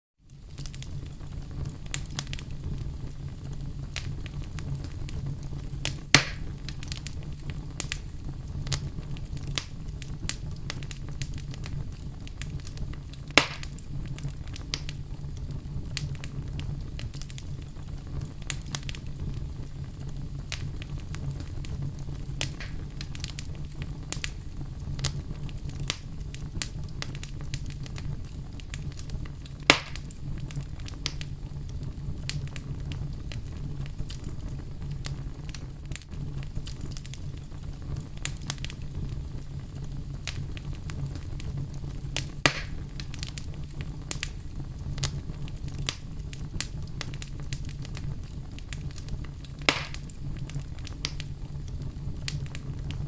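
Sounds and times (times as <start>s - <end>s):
wood fire crackling: 0.2s - 53.0s
loud fire pops: 0.3s - 53.0s.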